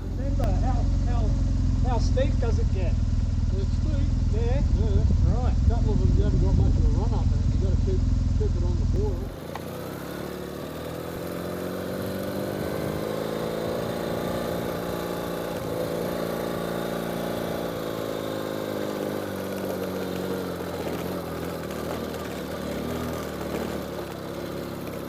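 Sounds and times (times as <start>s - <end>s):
motorcycle engine under load: 0.0s - 25.0s.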